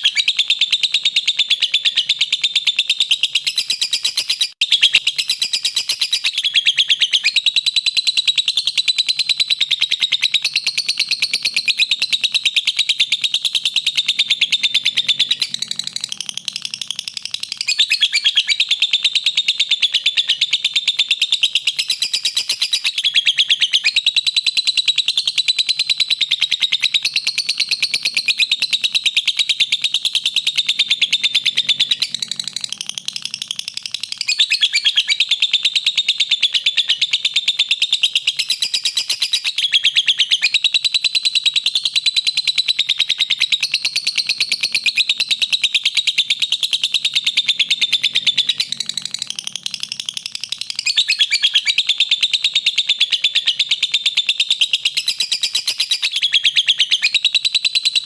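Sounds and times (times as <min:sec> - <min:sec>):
bird chattering high trill: 0:00.0 - 0:40.7, 0:42.1 - 0:58.0.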